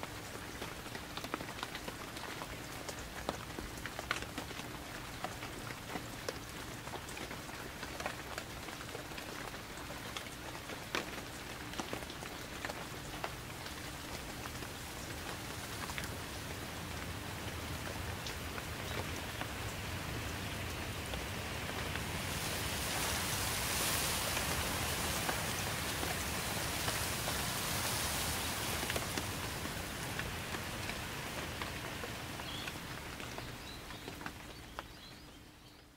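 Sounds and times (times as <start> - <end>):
steady rain: 0.0 - 35.9.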